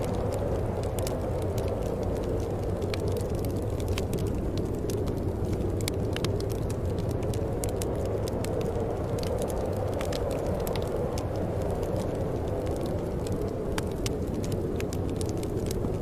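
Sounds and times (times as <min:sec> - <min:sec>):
low rush of flames: 0:00.0 - 0:16.0
wood fire crackling: 0:00.0 - 0:16.0.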